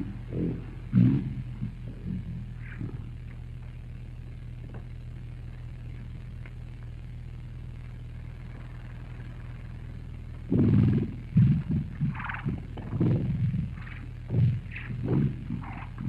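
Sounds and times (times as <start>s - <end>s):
low mains hum: 0.0s - 16.0s
tape hiss: 0.0s - 16.0s.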